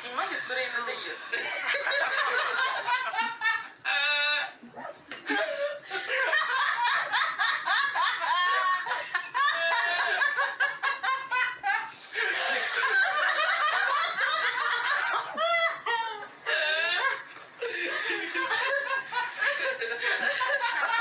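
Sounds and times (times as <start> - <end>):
people laughing: 0.0 - 21.0.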